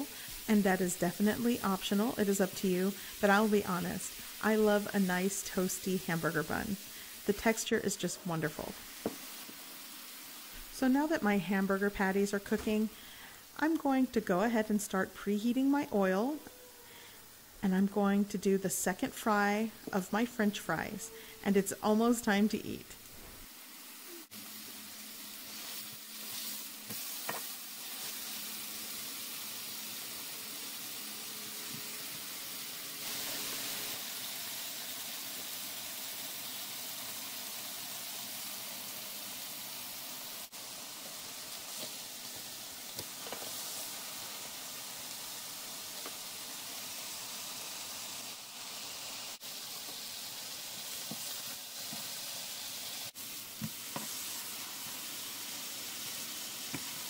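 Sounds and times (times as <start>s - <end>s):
burger patties sizzling on griddle: 0.0s - 13.2s, 21.6s - 57.0s.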